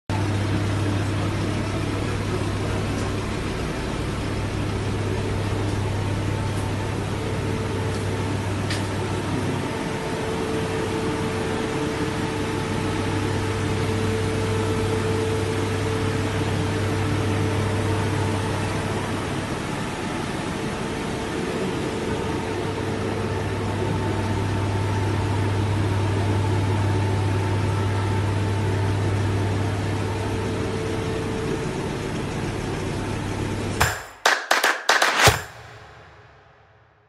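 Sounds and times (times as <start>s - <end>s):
ventilation fans droning: 0.1s - 36.9s.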